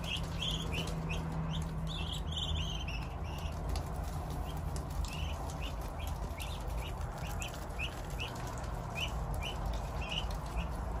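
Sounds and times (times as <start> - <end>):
bills pecking on concrete: 0.0 - 11.0
ducklings peeping: 0.0 - 11.0.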